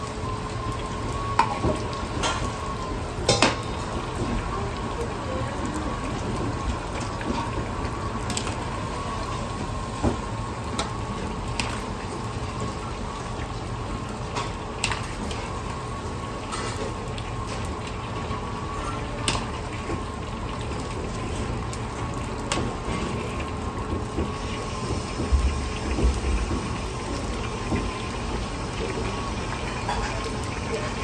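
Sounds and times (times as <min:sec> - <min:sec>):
gourd sizzling in hot oil: 0:00.0 - 0:31.0.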